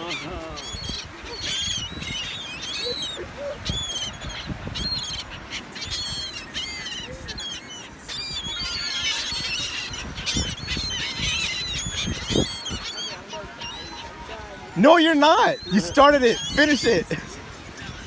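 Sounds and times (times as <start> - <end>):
flock of birds squawking: 0.0 - 18.0.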